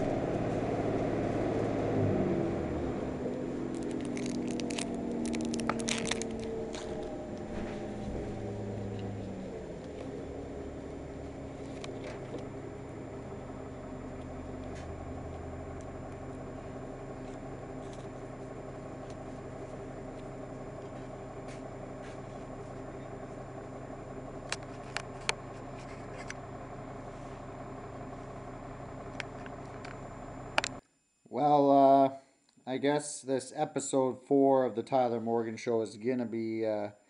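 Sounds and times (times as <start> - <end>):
vehicle hum from inside: 0.0 - 30.8.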